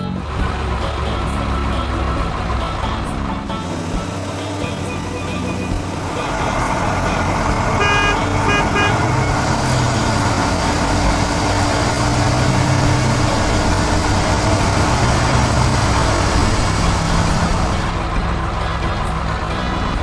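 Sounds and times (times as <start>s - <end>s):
cartoon engine sound: 0.0s - 20.0s
cartoon horn toots: 0.0s - 20.0s
loud rushing hiss: 0.2s - 20.0s.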